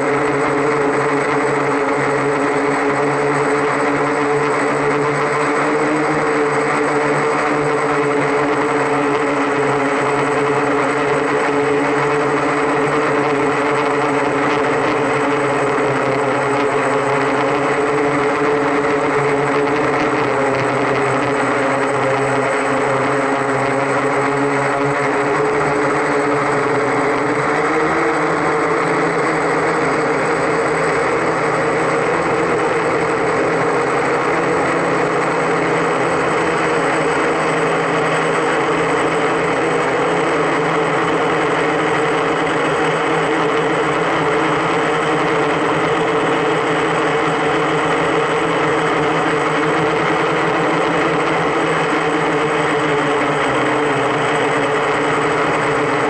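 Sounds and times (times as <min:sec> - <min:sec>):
drone rotors buzzing: 0:00.0 - 0:56.0.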